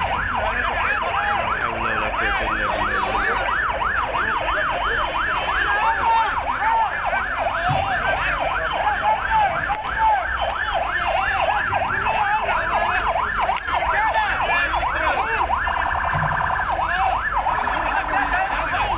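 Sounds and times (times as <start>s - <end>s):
emergency vehicle sirens yelping: 0.0s - 18.9s
warbling siren: 0.0s - 18.9s.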